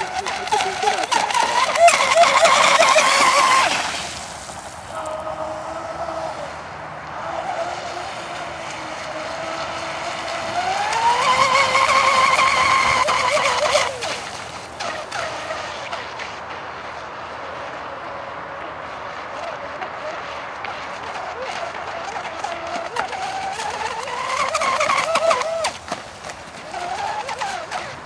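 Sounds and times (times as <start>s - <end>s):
model boat motor whining: 0.0s - 28.0s.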